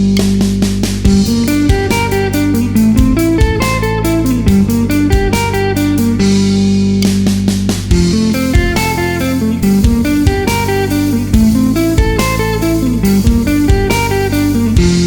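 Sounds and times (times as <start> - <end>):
backing track with bass and drums: 0.0 - 15.0
guitar playing arpeggios: 0.0 - 15.0.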